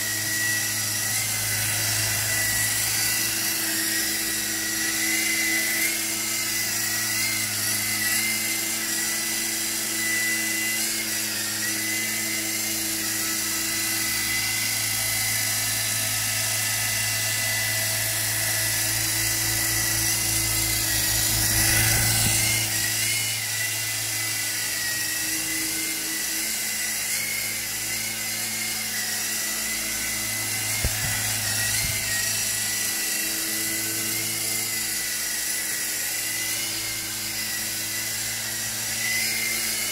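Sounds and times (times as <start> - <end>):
toy helicopter rotors whirring: 0.0 - 39.9.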